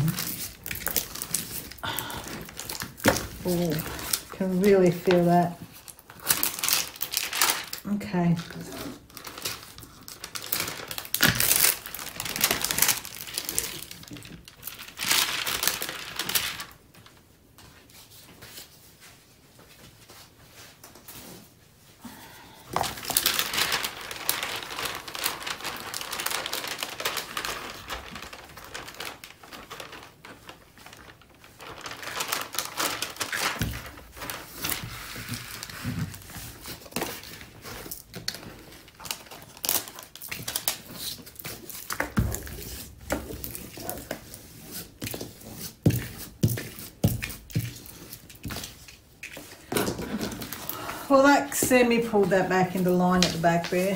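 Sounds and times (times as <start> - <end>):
plastic film crinkling: 0.0 - 19.1, 22.8 - 53.9.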